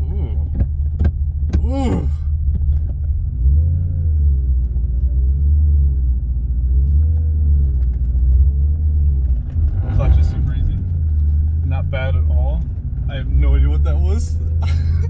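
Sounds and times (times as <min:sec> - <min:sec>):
car engine drone inside cabin: 0:00.0 - 0:15.0.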